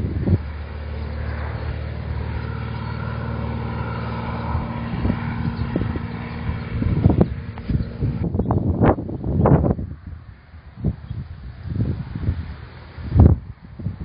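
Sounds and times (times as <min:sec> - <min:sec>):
propeller engine running: 0:00.0 - 0:14.0.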